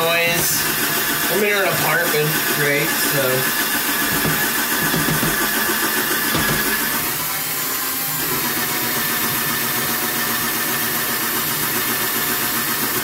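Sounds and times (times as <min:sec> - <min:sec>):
battery drill running: 0:00.0 - 0:13.0.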